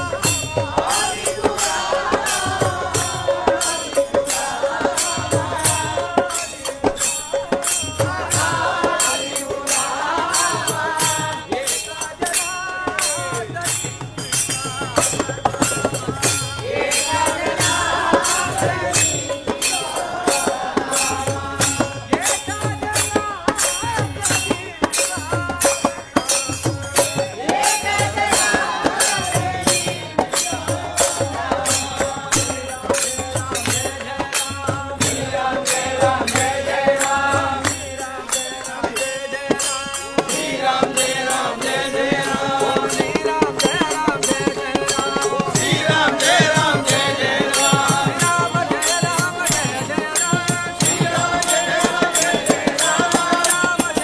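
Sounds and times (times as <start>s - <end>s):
barrel drum: 0.0s - 54.0s
group singing in unison: 0.0s - 54.0s
hand cymbals clashing: 0.0s - 54.0s.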